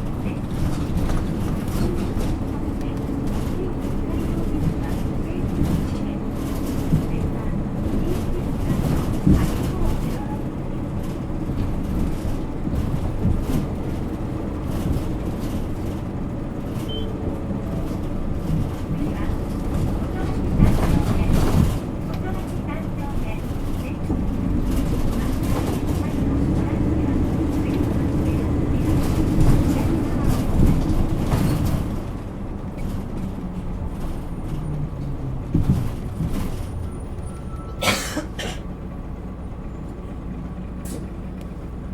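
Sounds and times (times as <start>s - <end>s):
bus engine rumbling: 0.0s - 41.9s
light rattles and clicks: 0.1s - 37.8s.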